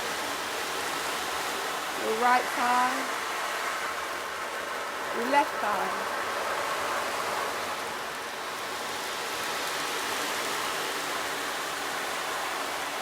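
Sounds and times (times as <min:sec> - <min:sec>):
hiss of running water: 0:00.0 - 0:13.0.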